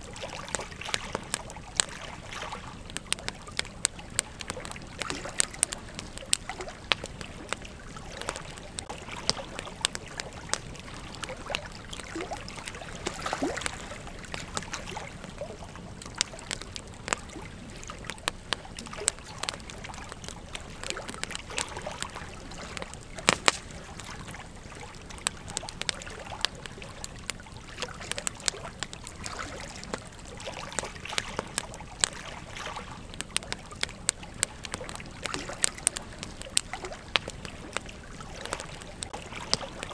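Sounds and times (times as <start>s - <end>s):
campfire pops and snaps: 0.0s - 39.9s.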